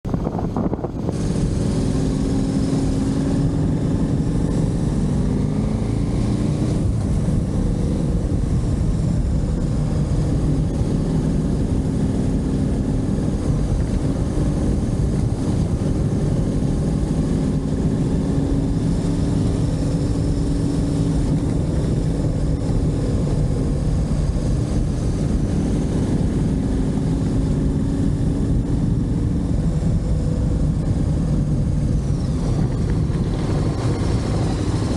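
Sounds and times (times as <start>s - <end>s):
motorcycle engine accelerating: 0.0s - 34.9s
rush of noise: 0.0s - 34.9s.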